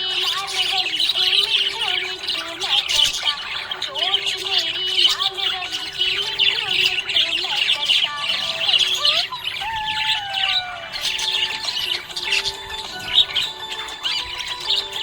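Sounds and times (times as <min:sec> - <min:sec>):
budgie chirping and chattering: 0:00.0 - 0:15.0.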